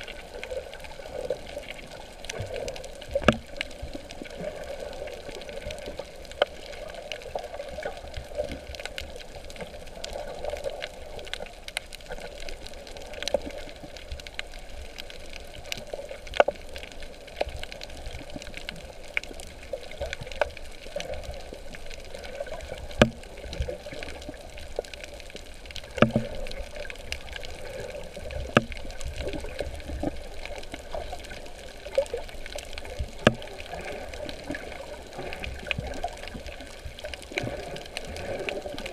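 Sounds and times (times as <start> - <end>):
water sloshing and trickling: 0.0 - 38.9.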